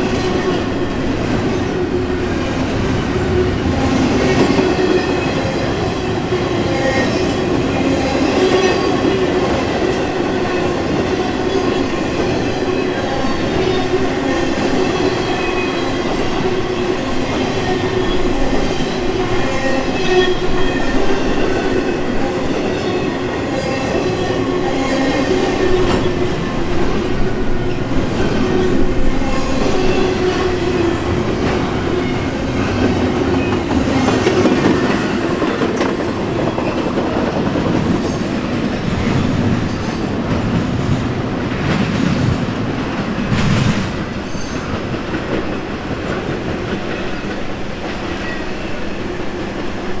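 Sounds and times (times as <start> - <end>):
train wheels on rails: 0.0 - 50.0.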